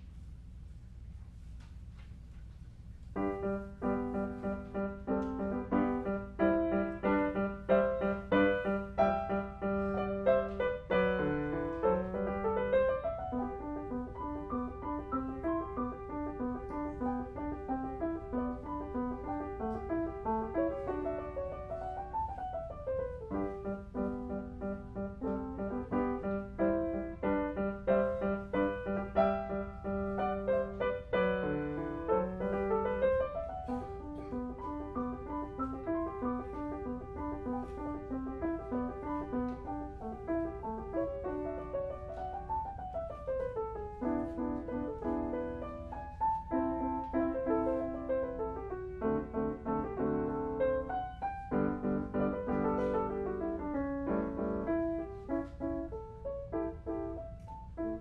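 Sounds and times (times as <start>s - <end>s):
solo grand piano piece: 0.0s - 58.0s.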